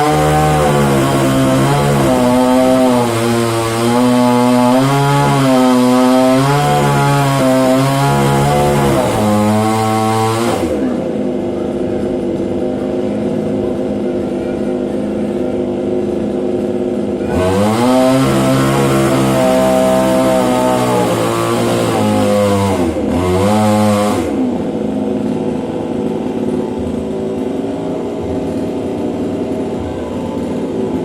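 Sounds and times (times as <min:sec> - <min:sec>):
chainsaw engine revving and idling: 0:00.0 - 0:31.0.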